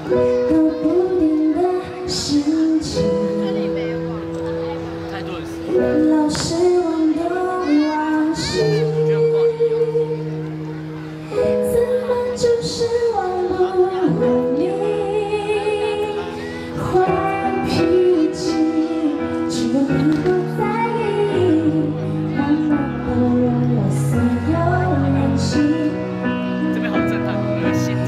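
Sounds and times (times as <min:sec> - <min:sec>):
woman singing: 0:00.0 - 0:04.1, 0:05.7 - 0:10.7, 0:11.3 - 0:28.0
instrumental backing: 0:00.0 - 0:28.0.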